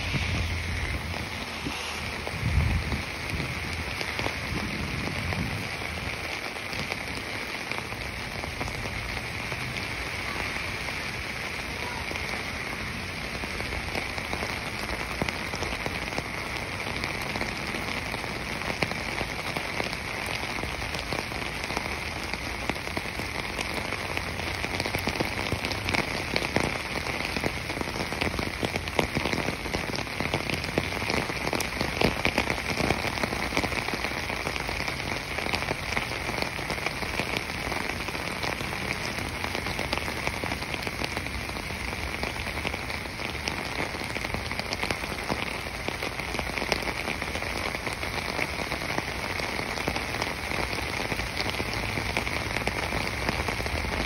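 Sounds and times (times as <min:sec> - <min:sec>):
continuous high hiss: 0:00.0 - 0:54.0
rain pattering: 0:00.0 - 0:54.0.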